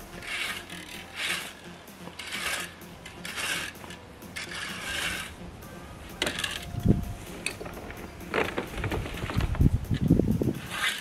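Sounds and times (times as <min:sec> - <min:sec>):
rake scratching through grass: 0:00.0 - 0:05.4, 0:06.2 - 0:11.0.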